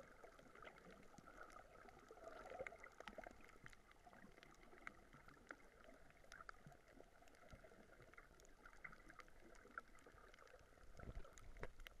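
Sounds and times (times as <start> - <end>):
soft underwater hiss: 0.0 - 12.0
underwater crackle of clicks: 0.0 - 12.0.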